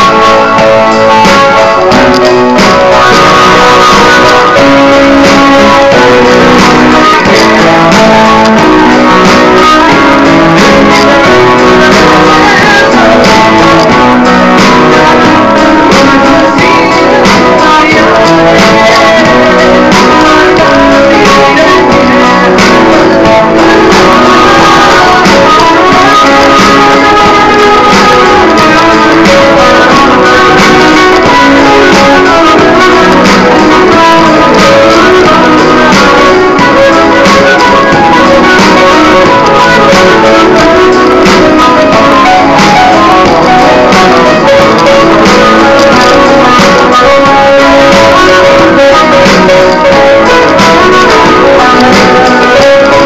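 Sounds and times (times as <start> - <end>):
electric guitar playing: 0.0 - 53.0.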